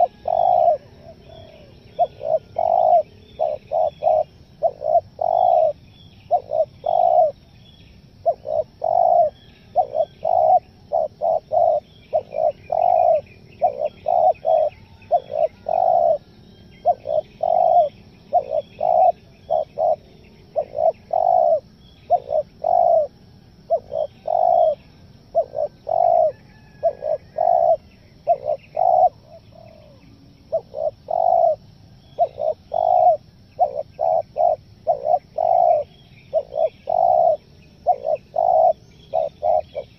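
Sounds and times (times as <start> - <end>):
dove cooing: 0.0 - 7.4, 8.1 - 39.9
small birds chirping faintly: 0.0 - 39.9.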